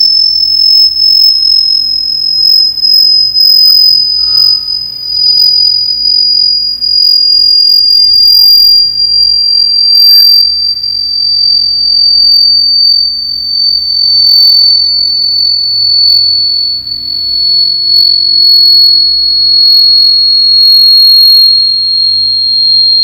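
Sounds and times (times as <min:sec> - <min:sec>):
high-pitched electronic tone: 0:00.0 - 0:23.0.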